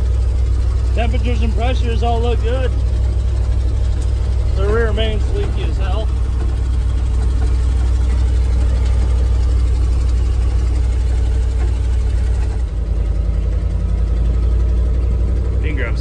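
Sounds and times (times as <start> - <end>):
road noise: 0.0 - 16.0
truck engine droning: 0.0 - 16.0.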